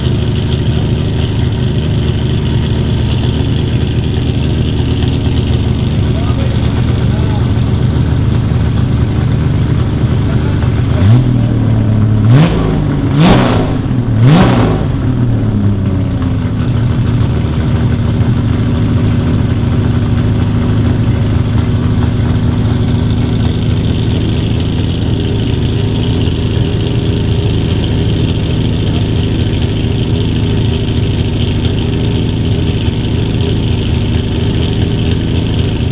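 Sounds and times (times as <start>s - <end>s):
race car engine revving and idling: 0.0s - 35.9s.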